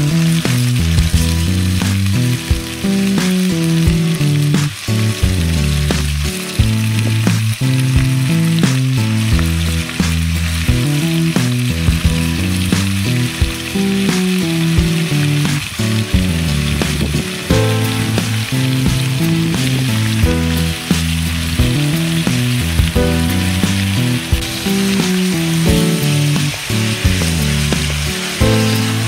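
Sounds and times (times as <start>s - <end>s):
background music with bass line: 0.0s - 29.0s
curry sizzling in a pot: 0.0s - 29.0s.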